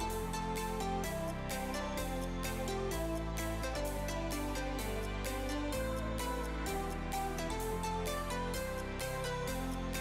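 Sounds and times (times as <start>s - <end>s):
electronic beat music: 0.0s - 10.0s.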